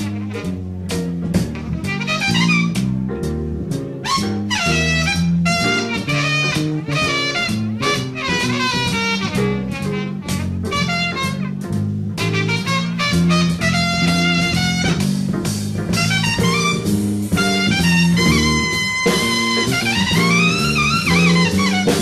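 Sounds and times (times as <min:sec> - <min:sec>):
big band jazz: 0:00.0 - 0:22.0.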